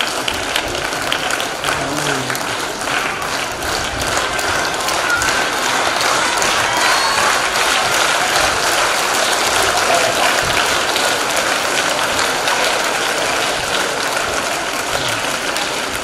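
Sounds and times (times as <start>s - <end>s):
crowd of children applauding: 0.0s - 16.0s
children's voices: 1.6s - 10.8s, 11.9s - 16.0s.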